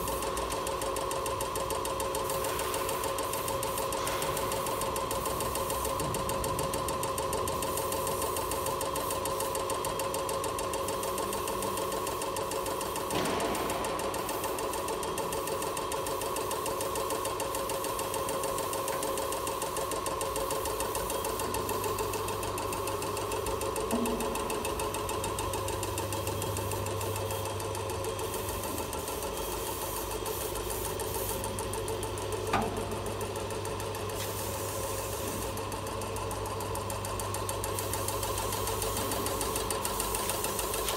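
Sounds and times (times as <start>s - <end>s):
machine running with rhythmic chatter: 0.0s - 40.9s.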